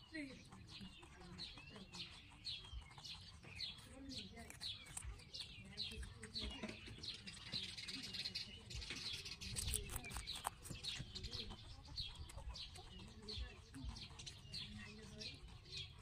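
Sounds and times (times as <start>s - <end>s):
rabbits chewing: 0.0s - 16.0s
small birds chirping: 0.0s - 16.0s.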